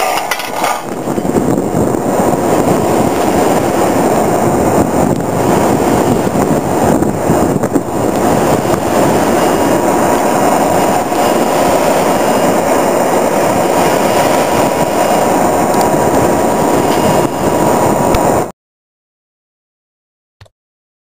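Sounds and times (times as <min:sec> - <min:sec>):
drilling rig machinery noise: 0:00.0 - 0:18.5
faint steady whine: 0:00.0 - 0:18.5.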